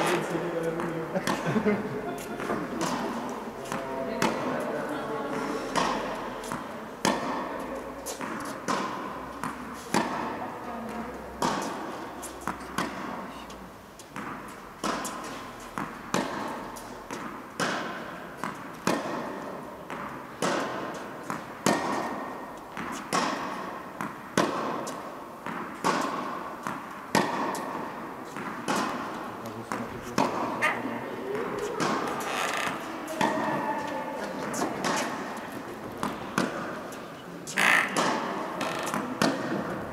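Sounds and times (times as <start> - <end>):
tennis ball hits echoing: 0.0 - 4.6, 5.3 - 13.3, 14.1 - 39.9.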